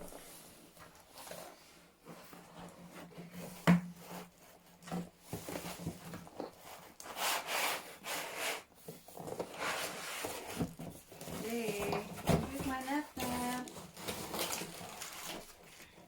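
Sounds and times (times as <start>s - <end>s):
cardboard rubbing and sliding: 0.0s - 15.7s.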